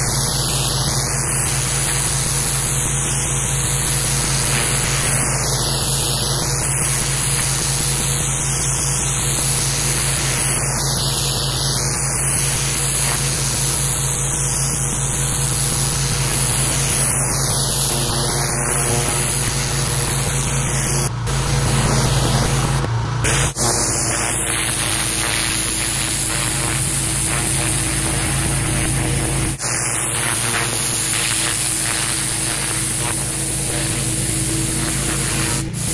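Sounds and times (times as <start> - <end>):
engine and pump hum: 0.0 - 35.9
pressure washer spraying concrete: 0.0 - 35.9.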